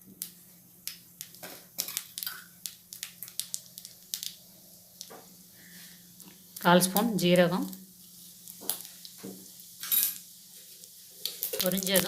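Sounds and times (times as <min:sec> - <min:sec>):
mustard seeds popping in hot oil: 0:00.0 - 0:12.0.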